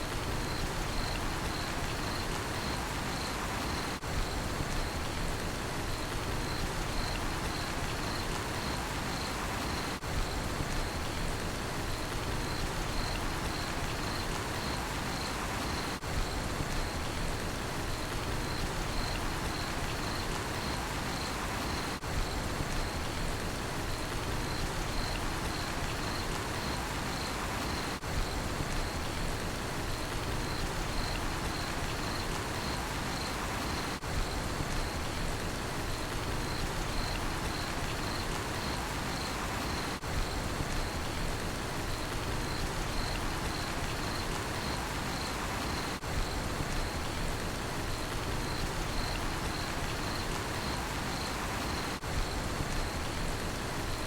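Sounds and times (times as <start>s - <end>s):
steady rain falling: 0.0s - 54.0s
cricket chirping: 0.3s - 5.1s, 5.9s - 11.2s, 11.9s - 17.2s, 18.0s - 23.2s, 23.9s - 29.2s, 30.0s - 35.2s, 35.9s - 54.0s.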